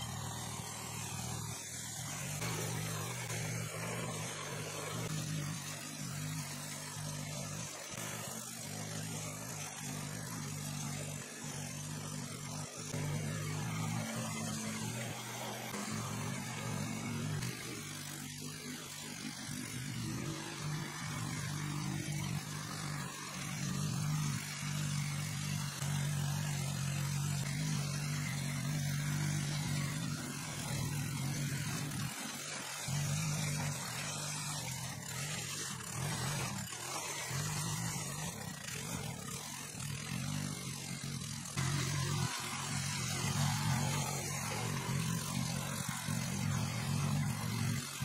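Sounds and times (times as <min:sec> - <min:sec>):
rotary tiller engine churning soil: 0:00.0 - 0:48.0.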